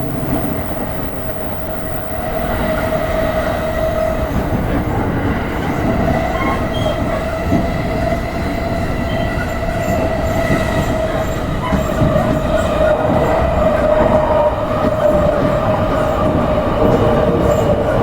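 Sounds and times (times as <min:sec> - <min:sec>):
singing tone from train wheels: 0:00.0 - 0:18.0
train low rumble: 0:00.0 - 0:18.0.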